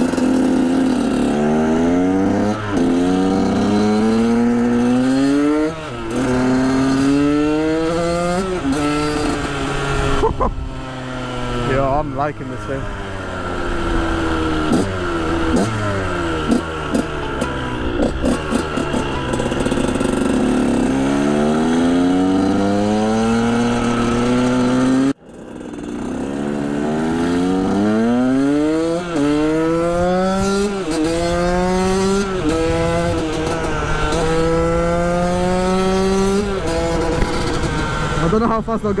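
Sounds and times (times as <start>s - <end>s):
two-stroke engine accelerating: 0.0s - 39.0s.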